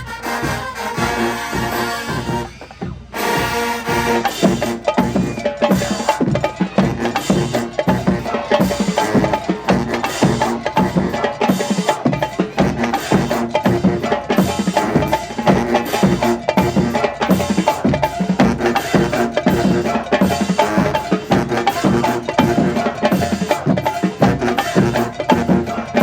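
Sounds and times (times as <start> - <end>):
marching drumline cadence: 0.0 - 26.0.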